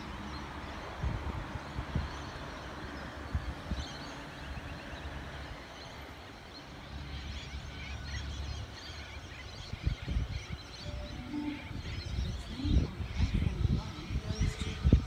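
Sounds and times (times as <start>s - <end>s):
birds chirping faintly: 0.0s - 15.0s
wind rumble on microphone: 0.0s - 15.0s.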